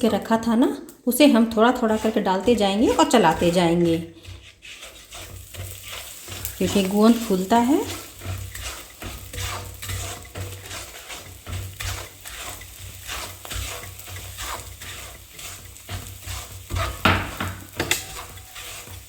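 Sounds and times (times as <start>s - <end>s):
soft sizzle: 0.0s - 19.0s
spatula scraping a pan: 0.0s - 19.0s.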